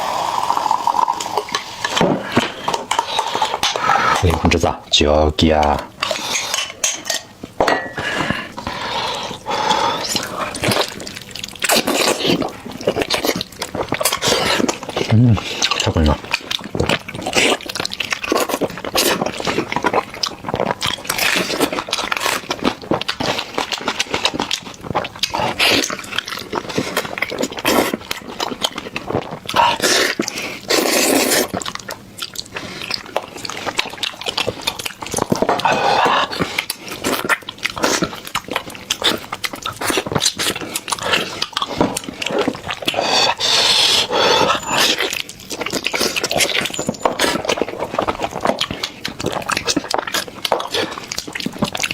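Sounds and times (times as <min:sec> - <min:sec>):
wet chewing: 0:05.4 - 0:51.9
slurping: 0:08.0 - 0:51.9.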